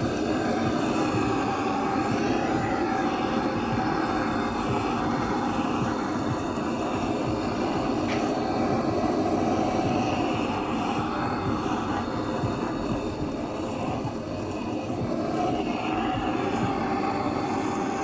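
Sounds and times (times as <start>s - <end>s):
blowtorch flame burning: 0.0s - 18.0s.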